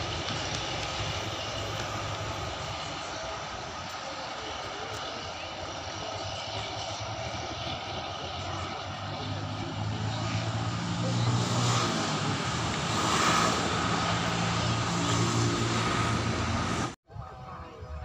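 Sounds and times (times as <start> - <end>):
diesel train engine drone: 0.0 - 17.0.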